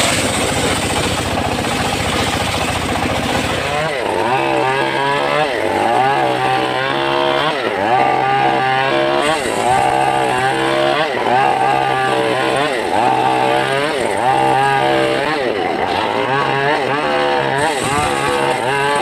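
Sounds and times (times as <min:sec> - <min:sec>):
circular saw ripping a log: 0:00.0 - 0:19.0.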